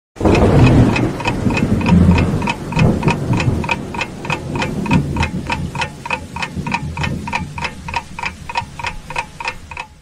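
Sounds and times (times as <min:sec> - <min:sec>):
low rumble: 0:00.2 - 0:09.2
clock ticking: 0:00.2 - 0:10.0.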